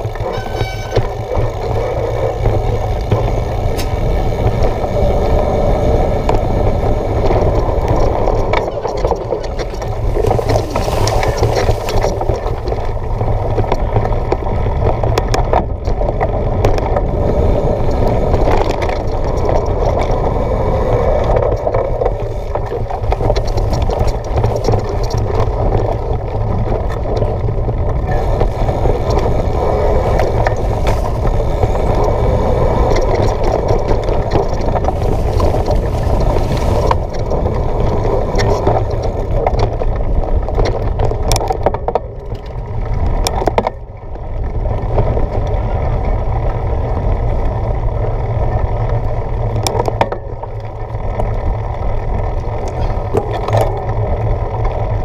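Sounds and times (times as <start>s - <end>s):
bike rattling: 0.0s - 55.0s
bike tyres rolling over dirt: 0.0s - 55.0s
wind buffeting microphone: 0.0s - 55.0s.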